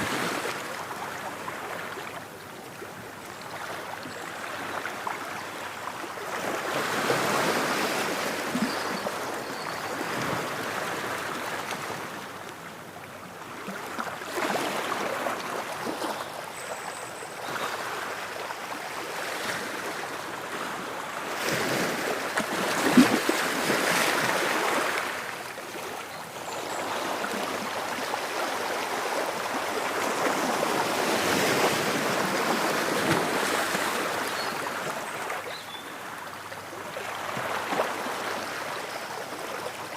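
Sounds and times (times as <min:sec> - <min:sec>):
ocean waves breaking on shore: 0:00.0 - 0:03.0, 0:03.6 - 0:12.4, 0:17.4 - 0:39.9.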